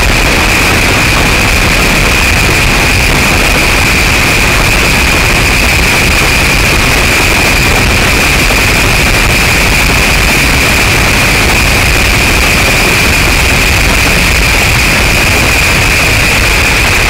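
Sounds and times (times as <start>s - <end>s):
constant high hiss: 0.0s - 17.0s
vehicle road noise: 0.0s - 17.0s
wind on microphone: 0.0s - 17.0s.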